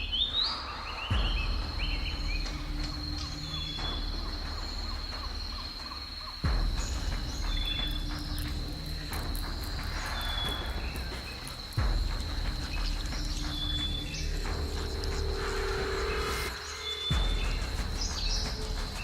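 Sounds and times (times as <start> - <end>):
high-pitched insect trill: 0.0 - 19.0
low rumble: 0.0 - 19.0
short insect chirps: 0.0 - 19.0.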